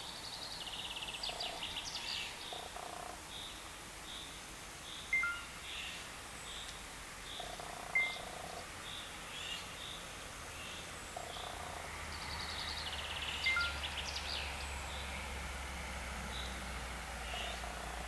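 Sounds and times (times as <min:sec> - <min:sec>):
birds chirping: 0:00.0 - 0:15.3, 0:17.2 - 0:18.0.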